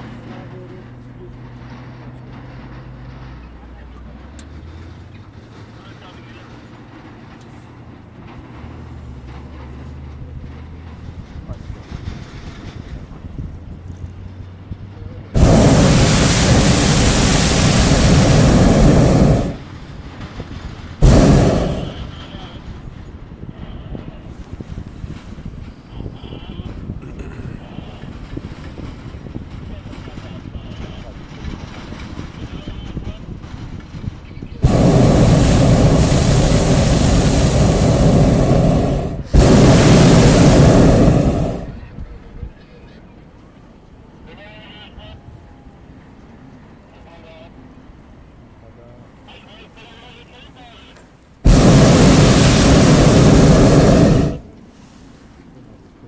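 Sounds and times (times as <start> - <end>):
propane burner roaring: 0.0 - 42.3, 51.2 - 56.0.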